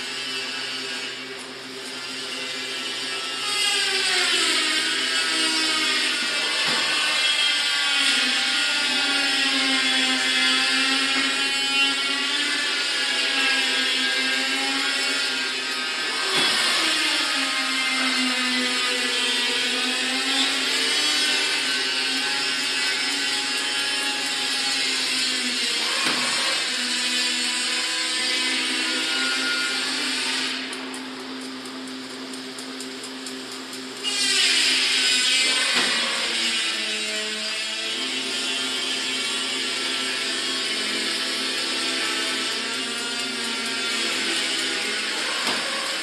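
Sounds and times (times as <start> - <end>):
machine motor hum and whirring: 0.0 - 46.0.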